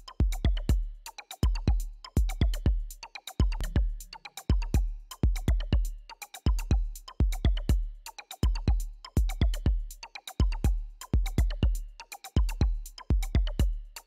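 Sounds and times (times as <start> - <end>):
electronic beat music: 0.0 - 14.0.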